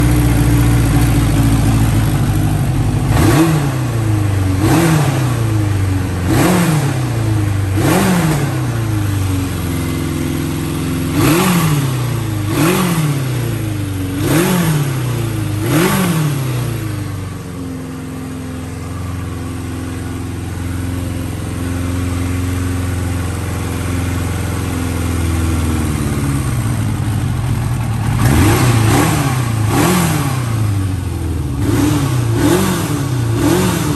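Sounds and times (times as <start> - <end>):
motorcycle engine revving and idling: 0.0 - 33.9.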